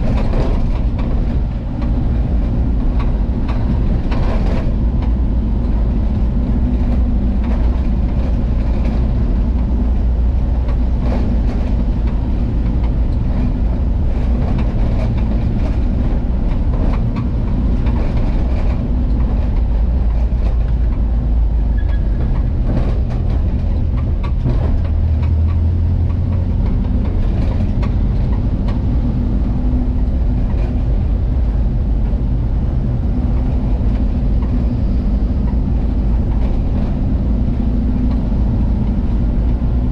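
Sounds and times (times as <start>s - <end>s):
road noise: 0.0s - 39.9s
van engine droning: 0.0s - 39.9s.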